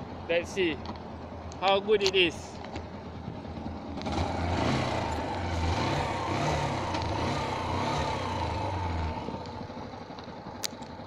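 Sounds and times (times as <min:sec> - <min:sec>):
motorcycle engine running: 0:00.0 - 0:11.0
steady road hiss: 0:00.0 - 0:11.0.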